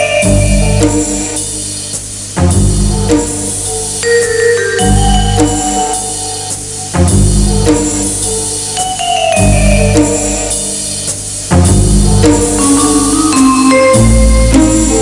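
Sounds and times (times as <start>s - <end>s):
heavy low beat: 0.0s - 8.7s, 9.4s - 15.0s
drama score melody: 0.0s - 15.0s.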